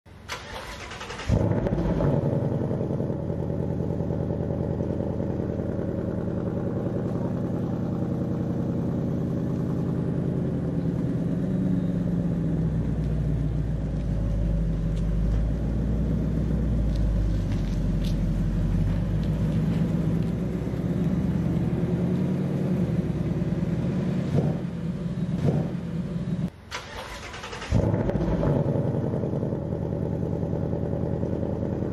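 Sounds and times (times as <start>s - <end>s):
car engine starting and idling: 0.1s - 31.9s.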